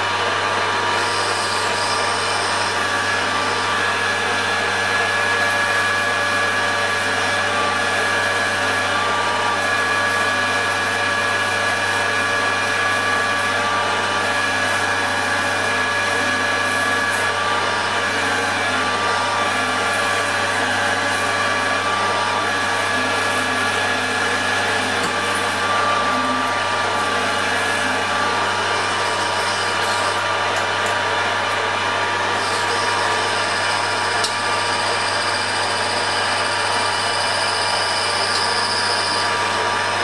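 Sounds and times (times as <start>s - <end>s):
metal lathe humming and whining: 0.0s - 40.0s.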